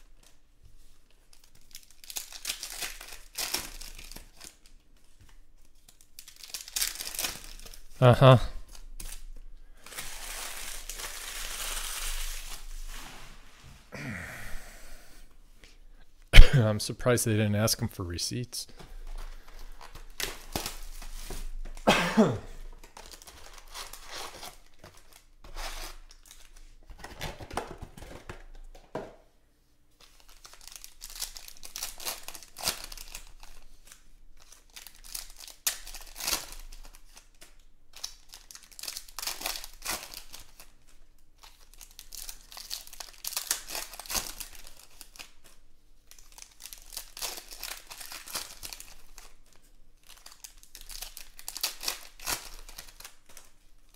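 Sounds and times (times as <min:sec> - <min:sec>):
card packs crinkling and tearing: 0:01.0 - 0:12.9, 0:17.0 - 0:21.8, 0:22.6 - 0:28.6, 0:30.0 - 0:53.9.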